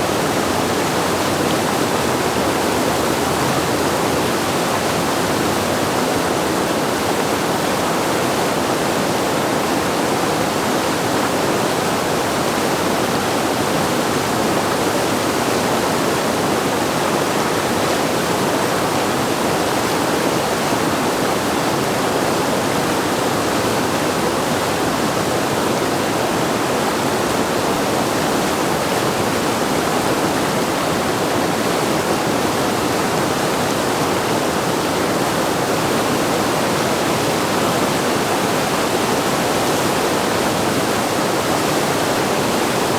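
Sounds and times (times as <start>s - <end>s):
whitewater rushing: 0.0s - 42.9s.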